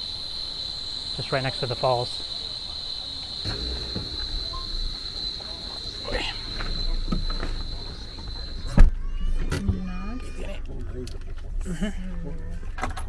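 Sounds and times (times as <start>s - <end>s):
jungle insects buzzing: 0.0s - 12.8s.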